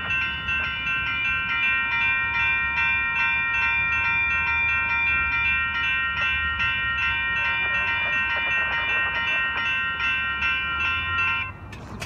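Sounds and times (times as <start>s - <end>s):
crossing signal bells ringing: 0.0s - 11.9s.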